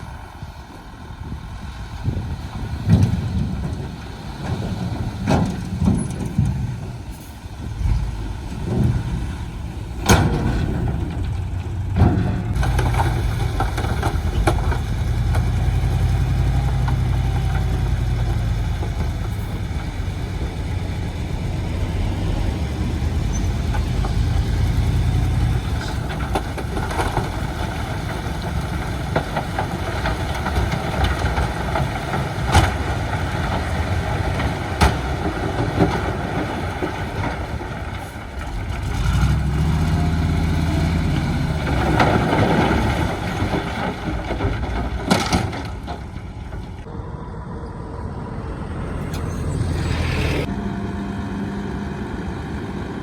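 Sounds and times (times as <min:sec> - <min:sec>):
diesel machinery running: 0:00.0 - 0:53.0.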